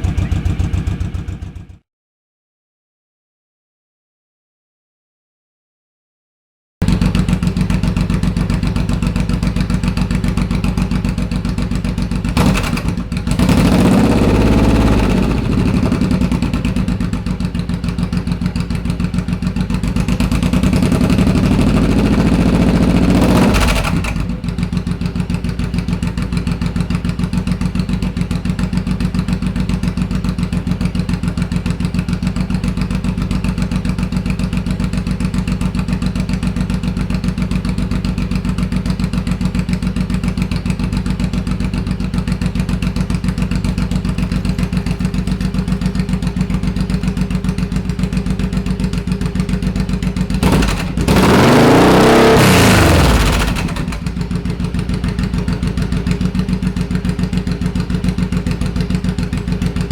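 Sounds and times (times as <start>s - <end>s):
motorcycle engine idling and revving: 0.0s - 1.8s, 6.8s - 59.9s.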